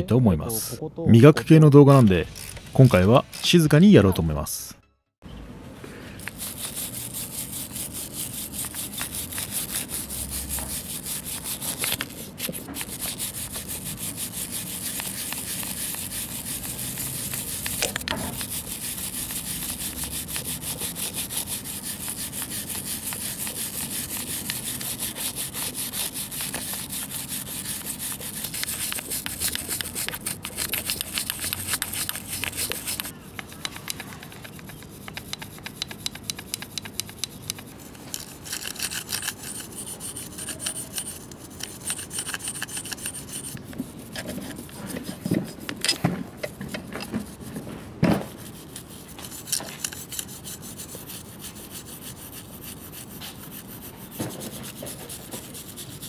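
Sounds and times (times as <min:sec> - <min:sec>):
brush scrubbing metal: 0:06.2 - 0:56.0.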